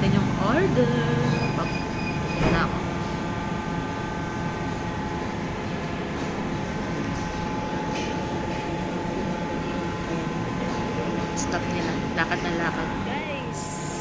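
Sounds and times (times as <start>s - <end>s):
air conditioning hum: 0.0s - 14.0s.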